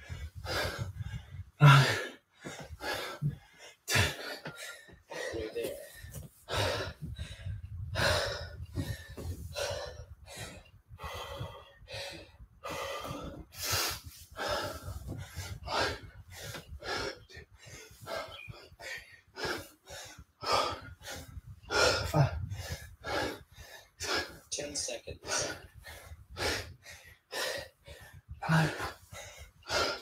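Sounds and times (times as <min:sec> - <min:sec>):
man breathing hard: 0:00.0 - 0:30.0.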